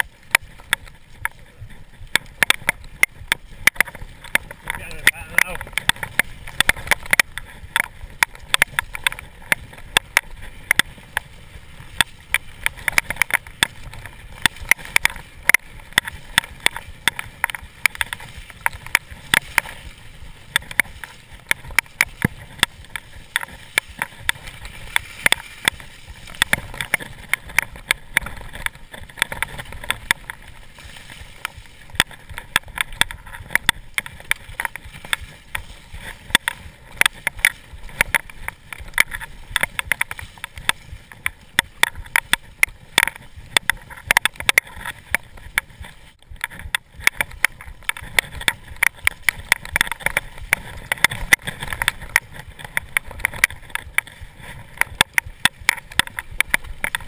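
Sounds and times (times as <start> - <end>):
bike rattling and clattering: 0.0 - 57.0.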